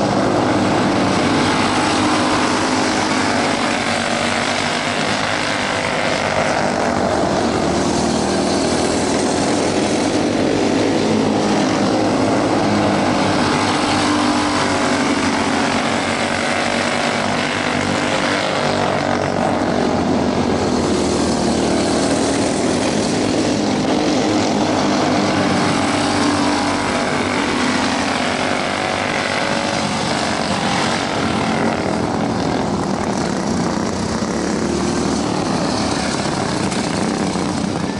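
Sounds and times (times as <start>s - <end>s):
kart engines buzzing: 0.0s - 37.9s.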